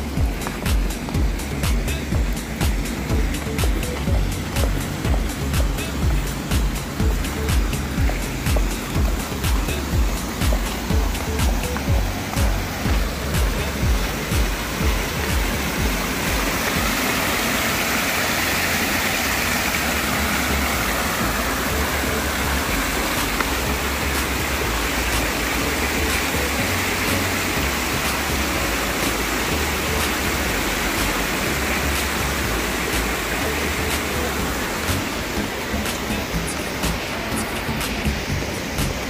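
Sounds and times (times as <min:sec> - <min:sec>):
fountain water splashing: 0:00.0 - 0:39.0.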